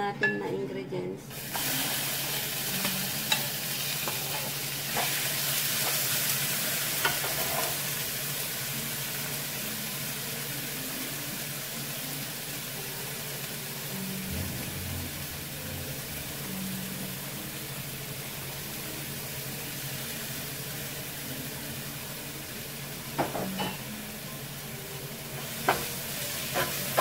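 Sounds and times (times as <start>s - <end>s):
paste sizzling in hot oil: 1.3s - 14.4s, 15.2s - 27.0s.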